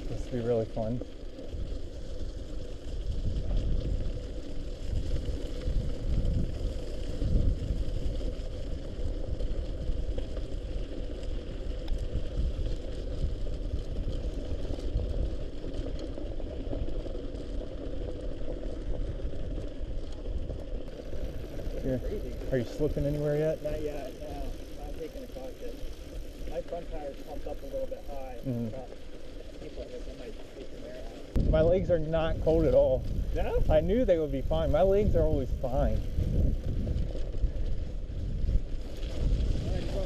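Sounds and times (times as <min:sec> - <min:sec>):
bike tyres splashing through slush: 0:00.0 - 0:40.0
wind rumbling over microphone: 0:00.0 - 0:40.0.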